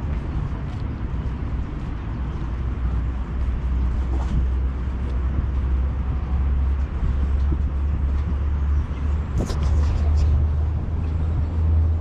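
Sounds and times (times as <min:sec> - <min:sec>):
steady low street rumble: 0:00.0 - 0:12.0.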